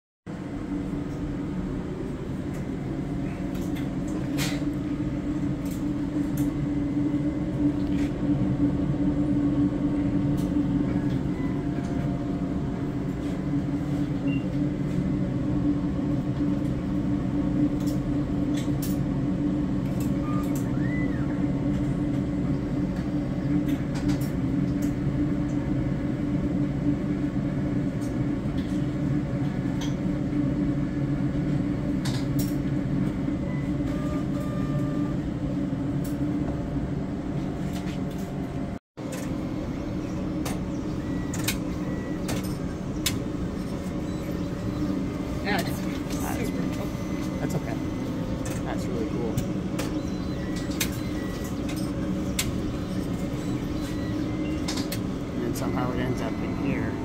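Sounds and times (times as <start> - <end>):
machine humming: 0.3 - 57.0.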